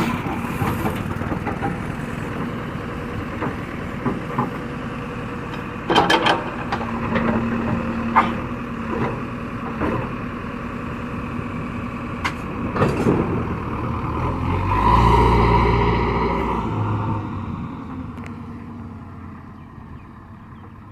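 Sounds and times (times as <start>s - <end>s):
heavy diesel machinery running: 0.0s - 20.9s.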